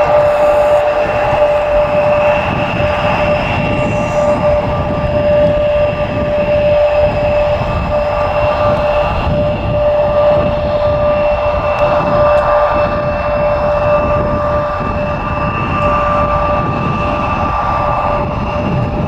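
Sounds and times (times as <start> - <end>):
jet engines whining and rumbling: 0.0 - 19.0.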